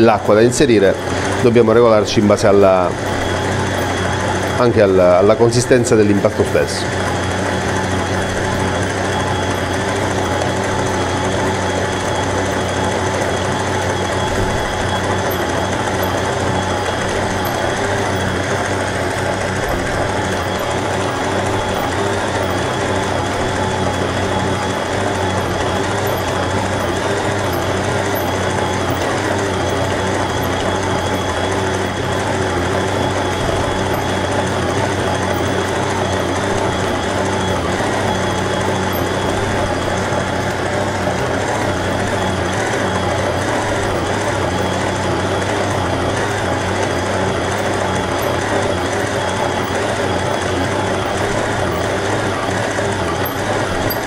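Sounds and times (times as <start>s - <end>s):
dough churning: 0.0s - 54.0s
stand mixer motor hum: 0.0s - 54.0s.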